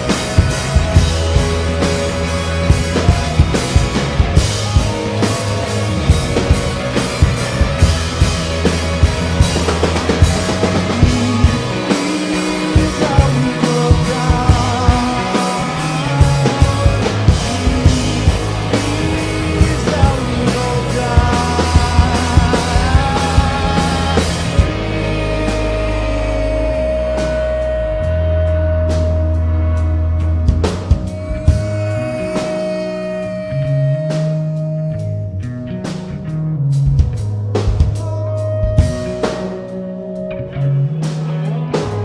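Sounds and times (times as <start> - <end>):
drum kit beat: 0.0 - 42.0
rock band playing loud: 0.0 - 42.0.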